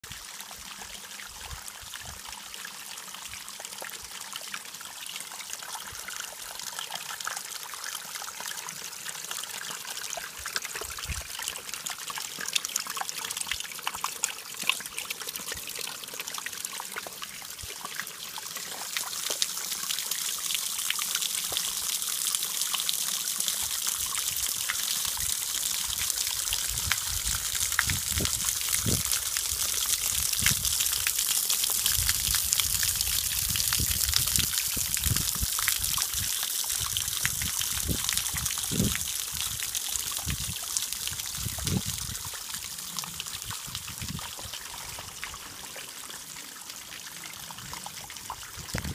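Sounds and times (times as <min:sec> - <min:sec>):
waterfall splashing onto stones: 0:04.8 - 0:48.9.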